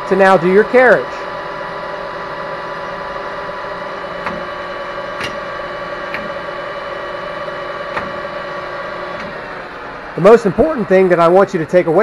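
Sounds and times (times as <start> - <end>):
metal lathe gear whine: 0.0 - 12.0.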